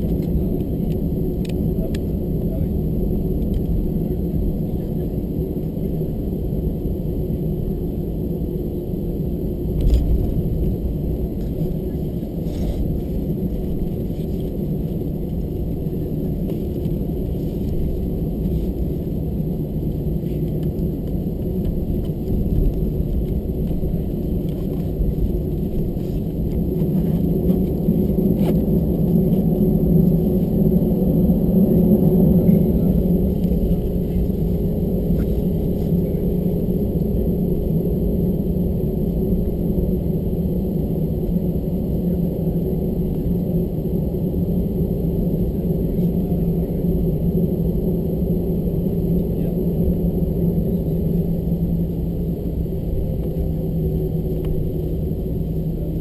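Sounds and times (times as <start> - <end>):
jet engine cabin hum: 0.0 - 56.0.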